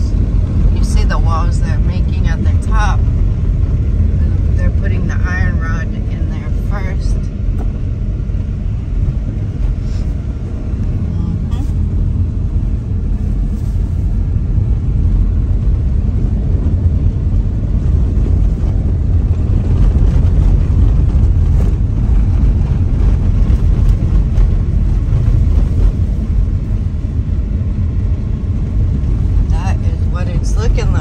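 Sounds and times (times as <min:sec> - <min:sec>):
car driving on dirt road: 0:00.0 - 0:31.0
car engine and tyre noise: 0:00.0 - 0:31.0.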